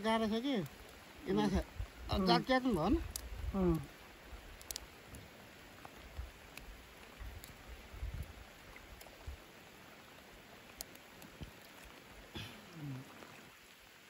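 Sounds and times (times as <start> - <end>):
light rain on a lake: 0.0 - 14.0.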